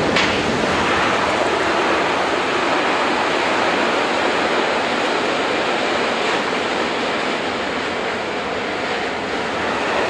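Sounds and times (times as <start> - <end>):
train wheels rushing on rail: 0.0 - 10.0.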